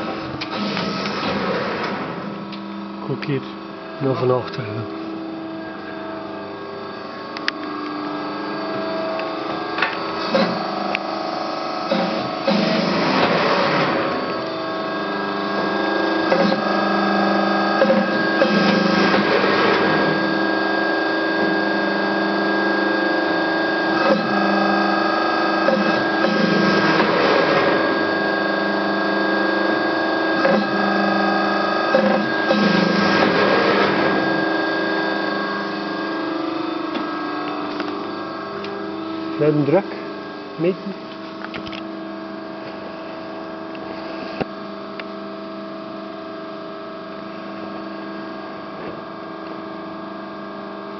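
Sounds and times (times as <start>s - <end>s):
mechanical whir: 0.0s - 45.1s.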